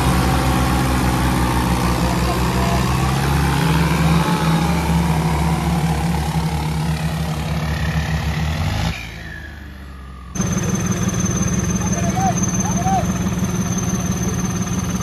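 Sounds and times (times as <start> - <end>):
tractor diesel engines running hard: 0.0 - 15.0.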